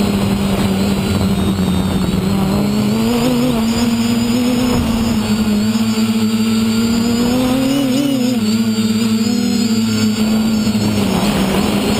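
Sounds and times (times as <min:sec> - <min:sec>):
electric motors and propellers humming: 0:00.0 - 0:11.9.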